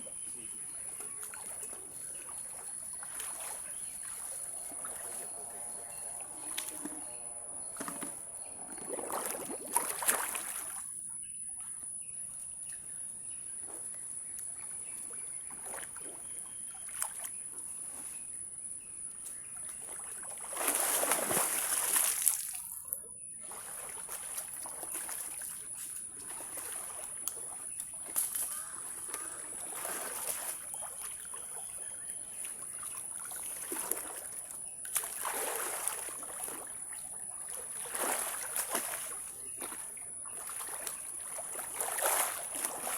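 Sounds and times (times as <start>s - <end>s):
water sloshing and splashing: 0.0s - 12.0s, 12.6s - 18.4s, 19.3s - 42.9s.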